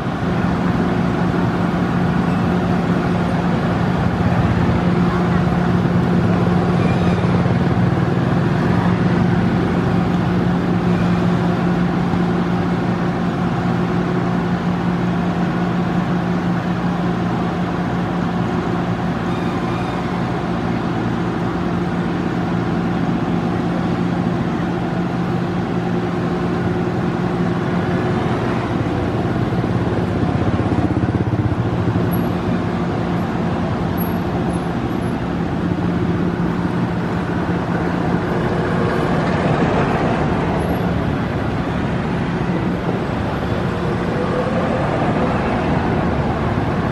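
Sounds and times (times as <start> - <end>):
generator engine droning: 0.0 - 46.9.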